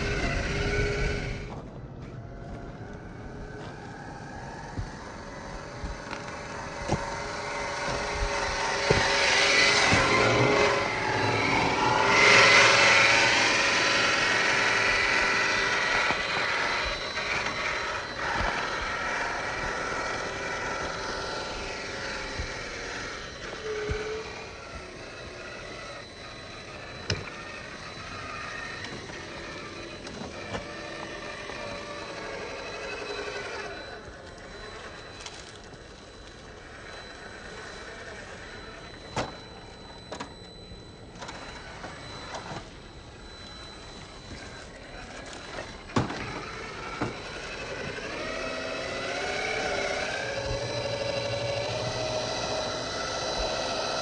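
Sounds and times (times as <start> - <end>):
rc car motor whining: 0.0 - 54.0.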